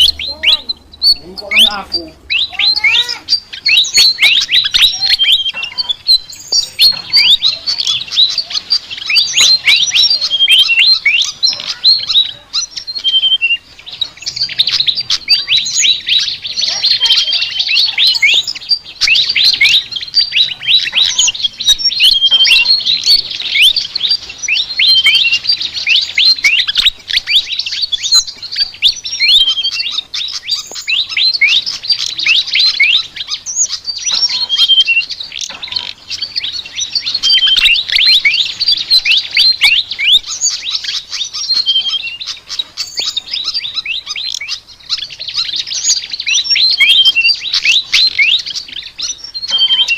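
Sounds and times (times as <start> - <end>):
bird chattering song: 0.0 - 49.9.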